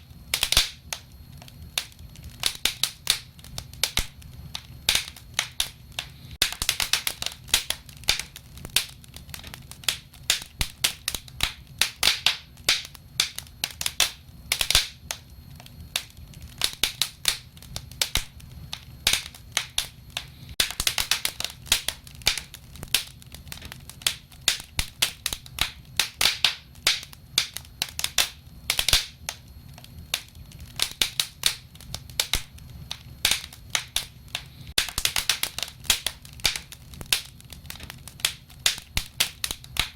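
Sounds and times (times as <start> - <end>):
low rumble of burning fire: 0.0 - 39.9
wood fire crackling: 0.0 - 39.9.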